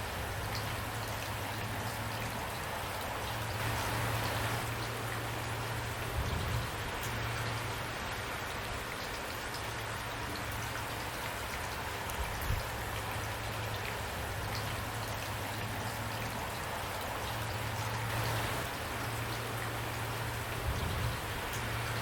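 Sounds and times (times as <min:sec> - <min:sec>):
steady rain falling: 0:00.0 - 0:22.0
raindrops ticking: 0:00.1 - 0:22.0.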